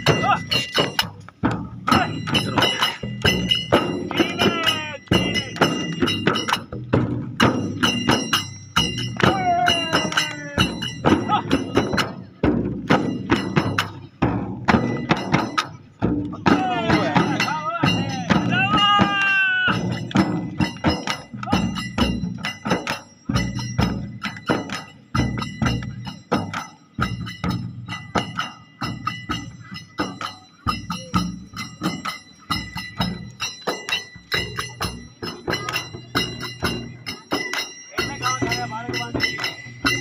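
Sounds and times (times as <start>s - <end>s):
frame drums playing fast rhythm: 0.0s - 40.0s
high ringing: 1.8s - 6.8s, 7.4s - 12.2s, 16.5s - 40.0s.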